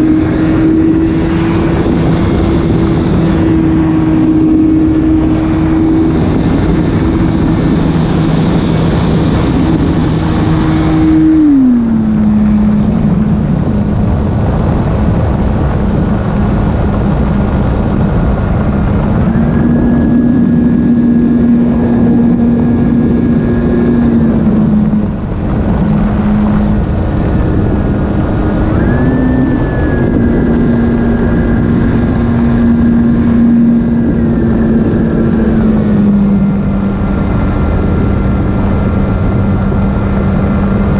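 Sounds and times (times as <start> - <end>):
electric propeller whining: 0.0 - 40.9
steady rushing noise: 0.0 - 40.9.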